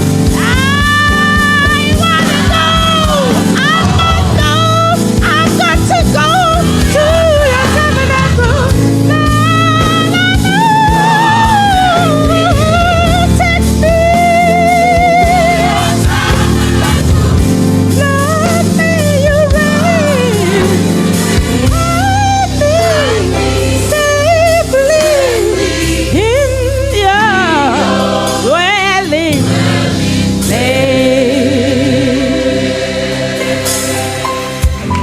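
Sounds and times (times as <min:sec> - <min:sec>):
band with drums and guitar: 0:00.0 - 0:27.0, 0:33.2 - 0:35.0
choir singing with vibrato: 0:00.0 - 0:35.0.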